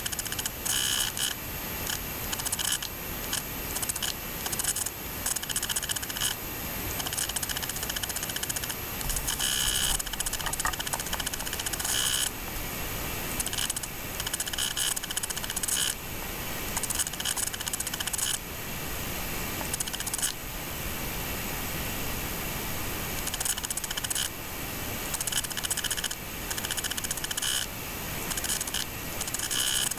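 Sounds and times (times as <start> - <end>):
mechanical clatter with hiss: 0.0 - 12.3, 13.1 - 16.0, 16.6 - 18.4, 19.5 - 20.4, 23.1 - 29.9.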